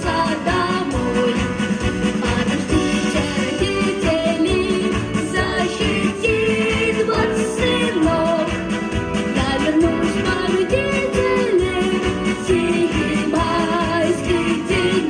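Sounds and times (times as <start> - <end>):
backing track with steady beat: 0.0 - 15.0
person singing pop song: 0.0 - 15.0.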